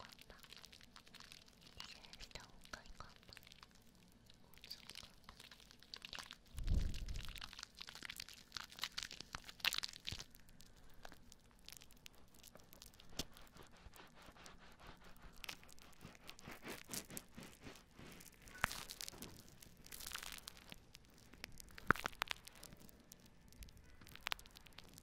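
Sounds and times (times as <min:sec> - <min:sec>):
soap bubbles crackling: 0:00.0 - 0:25.0.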